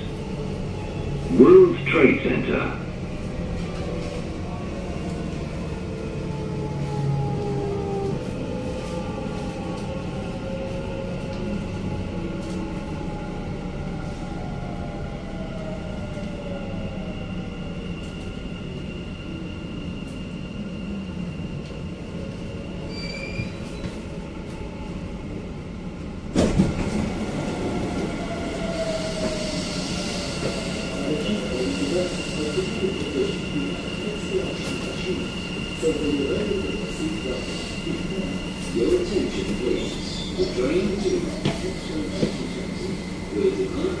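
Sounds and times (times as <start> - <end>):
train passing close alongside: 0.0 - 44.0.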